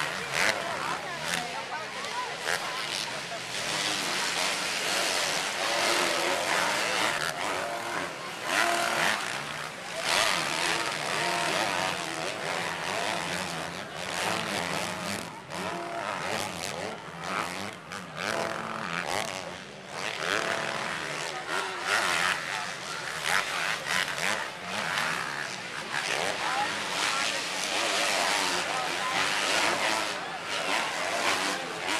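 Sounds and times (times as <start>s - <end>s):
crowd of spectators talking: 0.0s - 31.9s
motocross bike engines racing: 0.0s - 31.9s.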